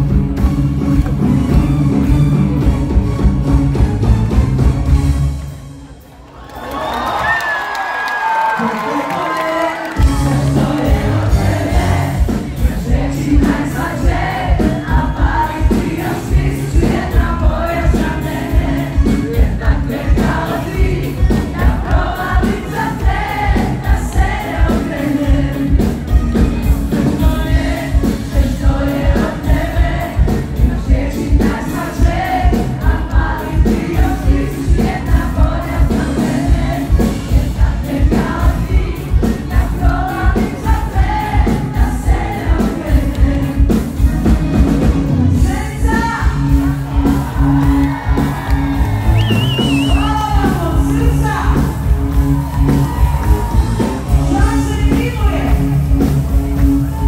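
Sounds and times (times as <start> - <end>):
pop band drum and bass beat: 0.0 - 5.5, 9.8 - 57.0
group of voices singing: 8.6 - 55.6.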